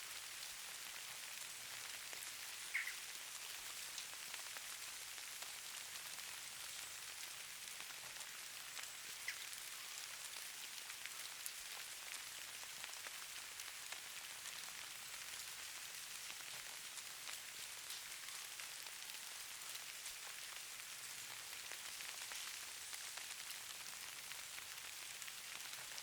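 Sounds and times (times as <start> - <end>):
snow pattering on a surface: 0.1 - 26.0.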